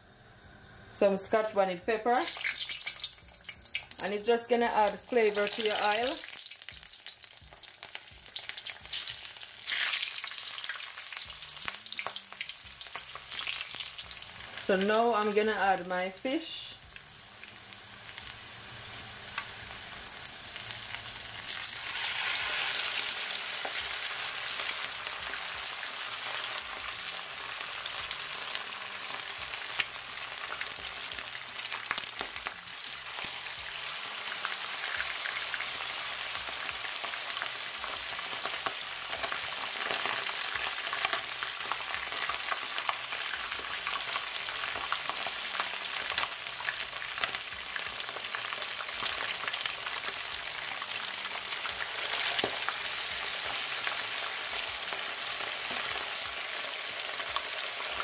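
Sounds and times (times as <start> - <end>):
fish deep-frying in oil: 2.0 - 58.0.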